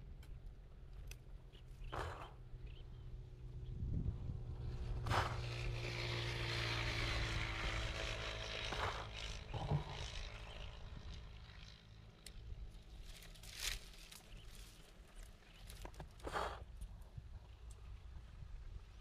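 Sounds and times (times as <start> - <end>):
vehicle engine hum: 0.0 - 19.0.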